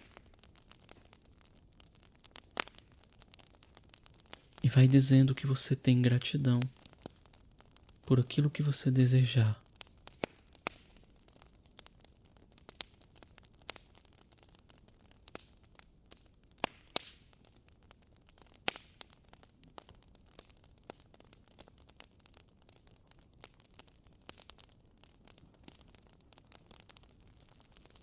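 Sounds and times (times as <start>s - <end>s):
soft steady hiss: 0.0s - 28.0s
wood fire crackling: 0.0s - 28.0s.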